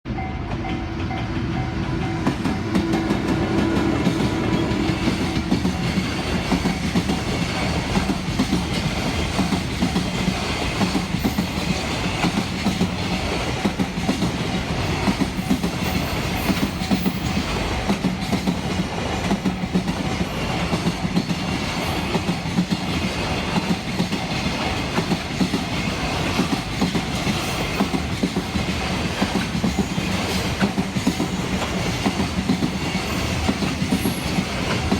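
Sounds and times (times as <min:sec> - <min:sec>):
train rumble: 0:00.1 - 0:34.9
train wheels clacking over rail joints: 0:00.2 - 0:34.9.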